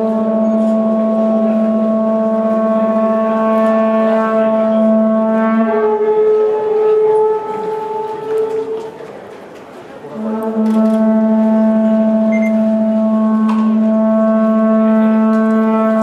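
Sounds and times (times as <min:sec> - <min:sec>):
conch-shell trumpets blown: 0:00.0 - 0:09.0, 0:10.0 - 0:16.0.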